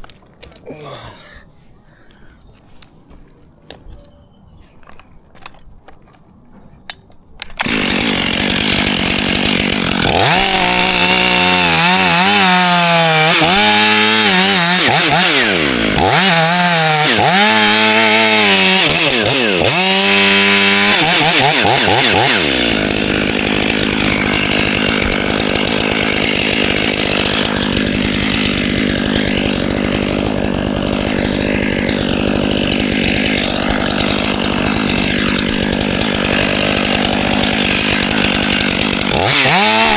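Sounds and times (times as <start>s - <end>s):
chainsaw revving: 7.6s - 39.9s.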